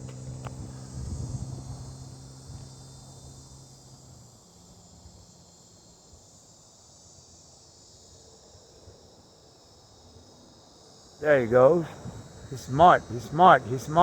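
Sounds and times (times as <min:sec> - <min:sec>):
crickets chirping chorus: 0:00.2 - 0:14.0.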